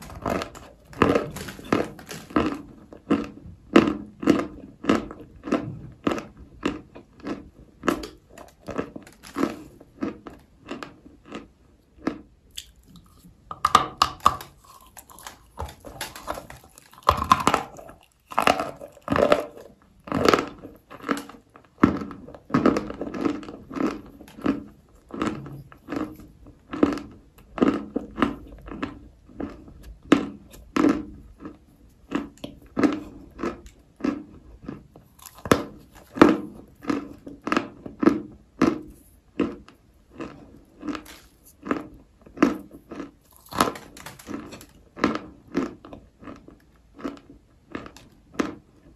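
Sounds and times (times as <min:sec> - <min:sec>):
crunchy chewing: 0:00.0 - 0:13.4, 0:14.2 - 0:48.9.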